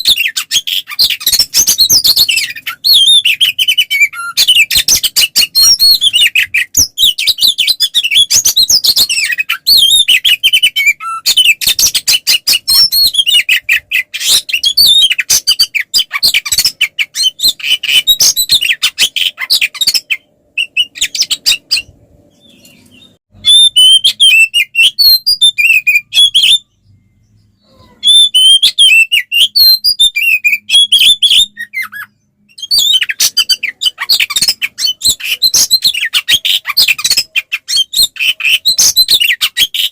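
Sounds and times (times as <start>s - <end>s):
bird singing with chattering rattles: 0.0s - 39.9s.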